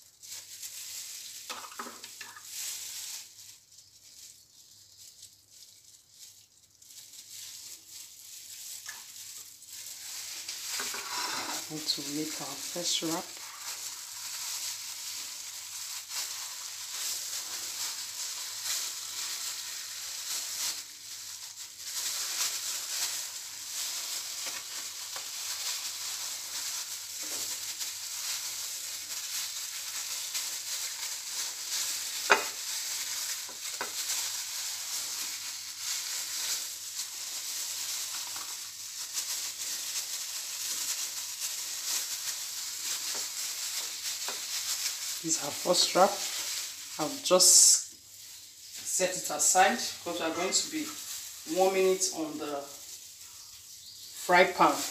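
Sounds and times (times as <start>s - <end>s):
plastic gloves crinkling: 0.0s - 54.9s.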